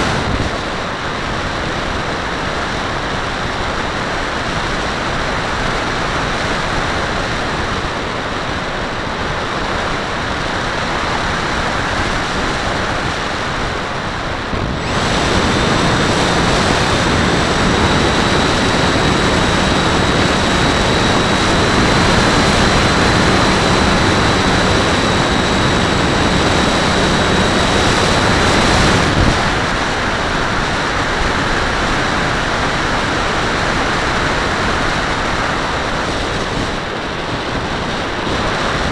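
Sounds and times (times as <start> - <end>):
electric motor and propeller whine: 0.0 - 38.9
wind rushing over microphone: 0.0 - 38.9.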